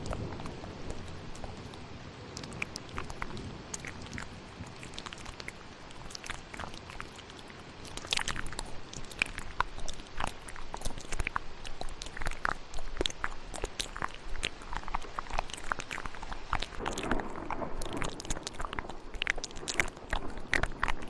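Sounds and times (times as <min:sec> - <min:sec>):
steady rain: 0:00.0 - 0:21.0
wet mouth clicks and smacks: 0:00.0 - 0:21.0.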